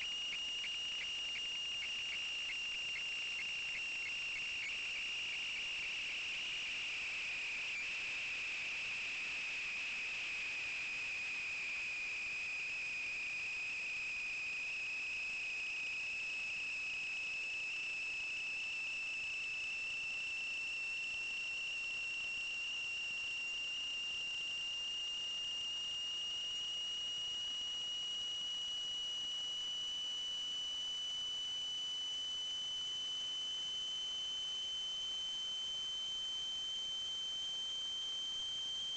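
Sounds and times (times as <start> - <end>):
high-pitched electronic whine: 0.0 - 38.9.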